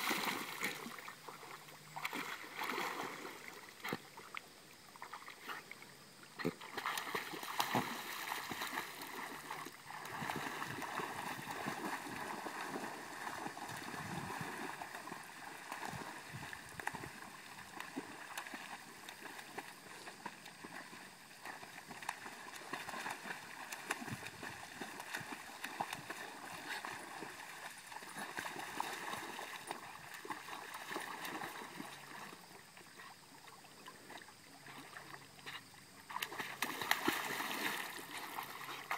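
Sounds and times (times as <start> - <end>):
water sloshing and splashing: 0.0 - 4.4, 6.4 - 33.0, 33.8 - 38.9.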